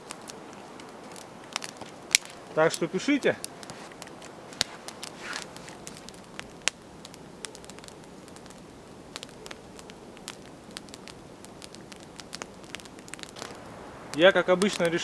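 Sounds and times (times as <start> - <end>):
campfire crackling: 0.0 - 15.0
faint fire hiss: 0.0 - 15.0
sharp snaps of burning wood: 0.0 - 15.0.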